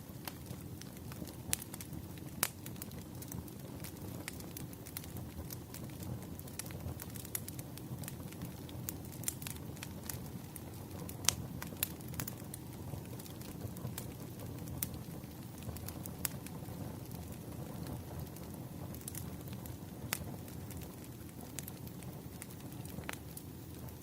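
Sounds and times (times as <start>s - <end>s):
firewood crackling and popping: 0.0s - 24.0s.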